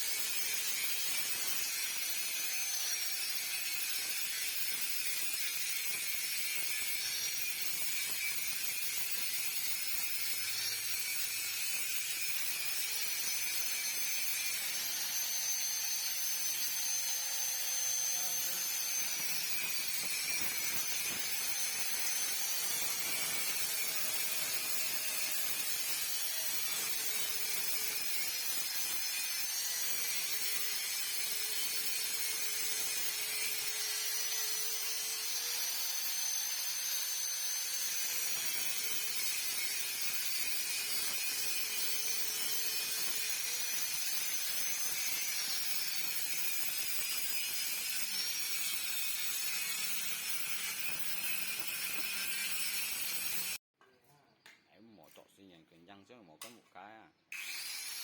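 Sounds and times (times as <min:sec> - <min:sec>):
electric power tool running: 0:00.1 - 0:53.6, 0:57.3 - 0:58.0.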